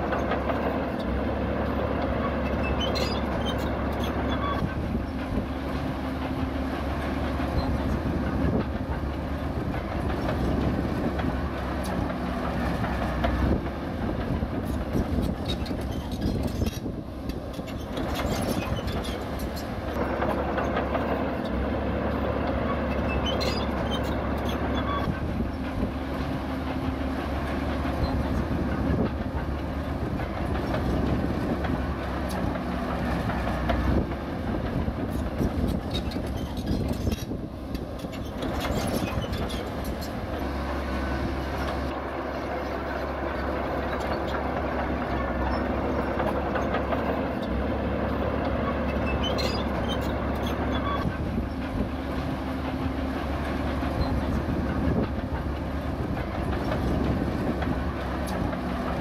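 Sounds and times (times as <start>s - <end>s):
bulldozer diesel engine: 0.0s - 59.0s
steel tracks clanking: 0.0s - 59.0s.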